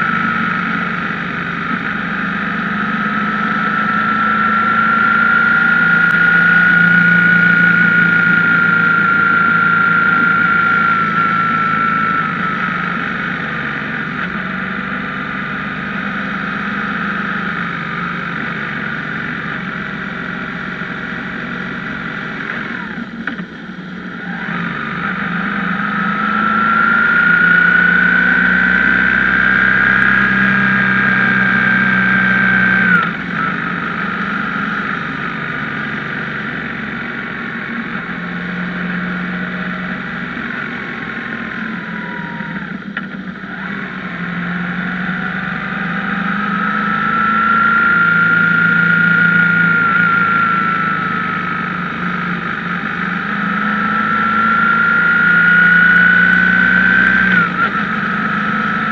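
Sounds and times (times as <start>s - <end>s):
high engine whine: 0.0s - 58.9s
motorcycle engine running: 0.0s - 58.9s.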